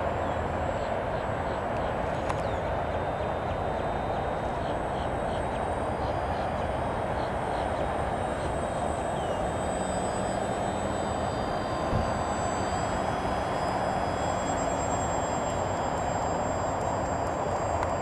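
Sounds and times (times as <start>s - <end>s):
model plane motor whine: 0.0s - 18.0s.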